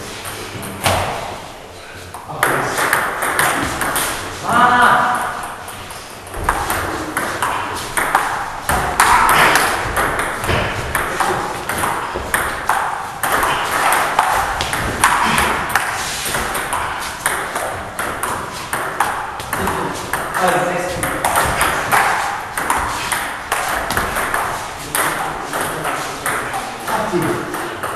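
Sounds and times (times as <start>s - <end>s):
table tennis ball pinging: 2.4s - 4.2s, 5.0s - 27.9s.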